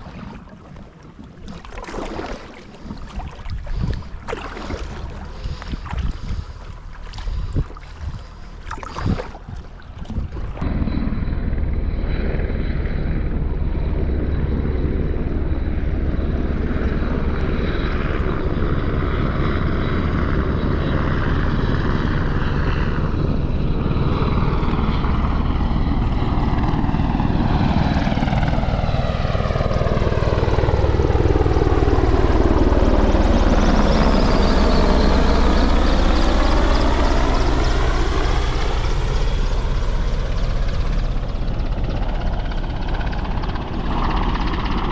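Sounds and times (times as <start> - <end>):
engine drone: 0.0 - 44.9.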